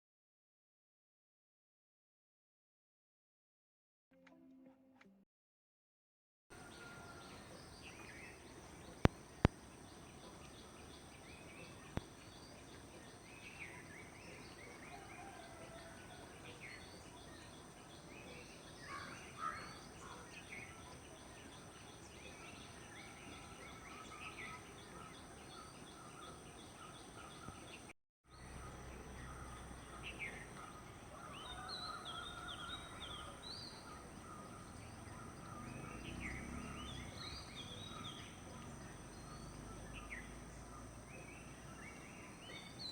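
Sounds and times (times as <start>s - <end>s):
birds chirping: 6.5s - 42.9s.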